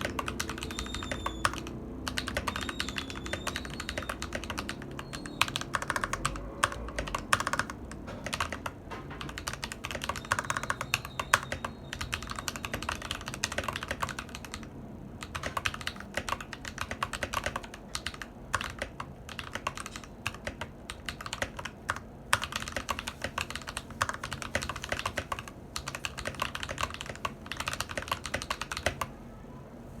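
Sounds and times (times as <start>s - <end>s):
typing on mechanical keyboard: 0.0s - 29.2s.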